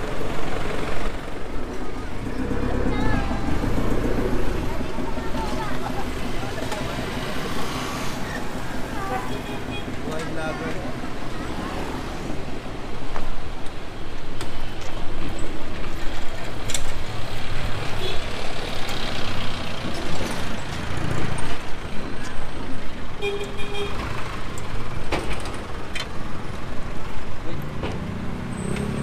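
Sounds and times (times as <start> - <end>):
vehicle engines passing: 0.0 - 29.0.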